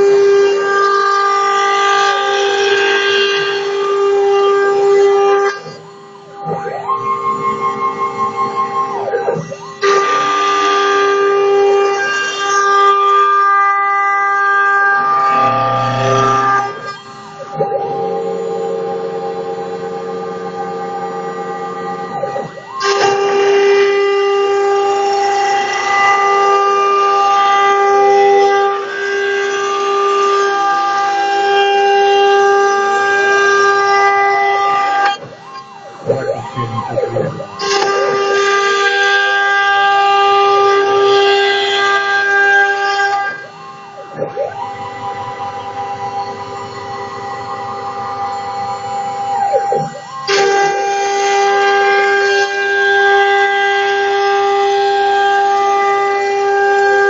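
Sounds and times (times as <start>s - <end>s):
stepper motors whining: 0.0s - 57.0s.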